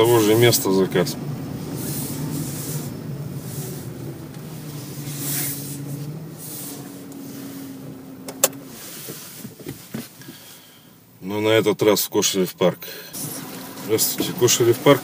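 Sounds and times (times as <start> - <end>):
mechanical hum inside a car: 0.0 - 15.0.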